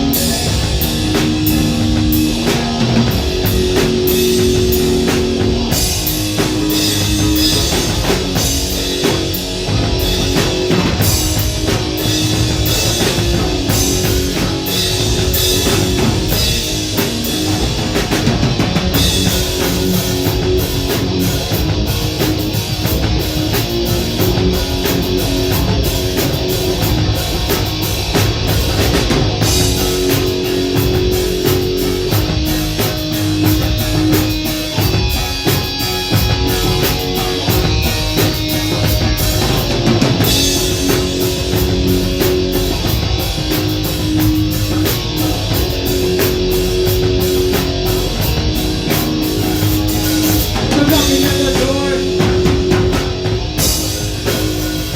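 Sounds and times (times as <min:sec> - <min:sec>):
drum kit with cymbals: 0:00.0 - 0:54.9
electric guitar riff: 0:00.0 - 0:54.9.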